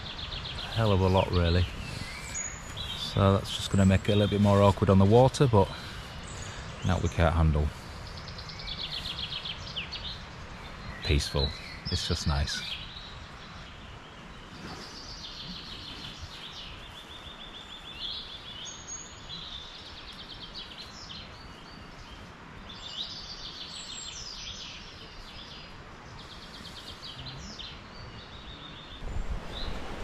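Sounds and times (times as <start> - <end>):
birds singing trills: 0.0 - 30.0
wind in trees: 0.0 - 30.0.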